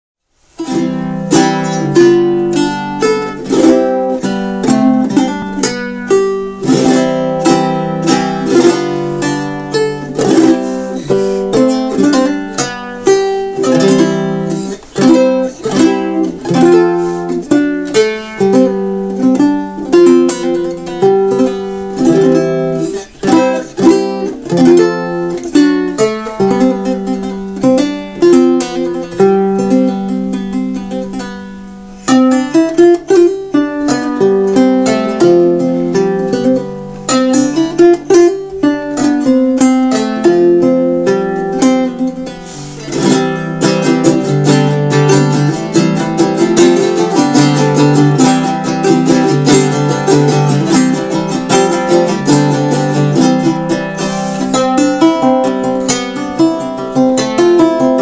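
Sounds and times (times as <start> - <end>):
solo guitar strumming and plucking: 0.5 - 58.0.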